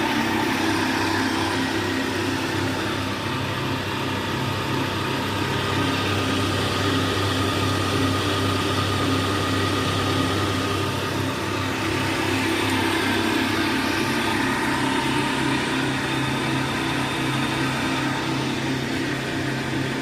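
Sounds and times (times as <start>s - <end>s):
electric motor humming: 0.0s - 20.0s.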